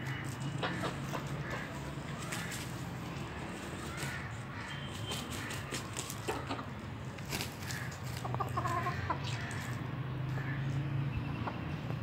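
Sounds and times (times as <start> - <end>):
chickens clucking and squawking: 0.0 - 4.7, 5.3 - 10.7.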